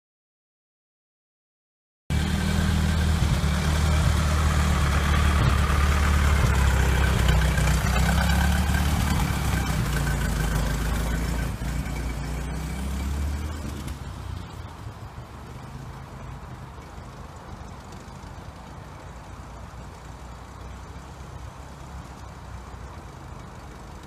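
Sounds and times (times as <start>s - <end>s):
car engine driving past: 2.1s - 24.0s.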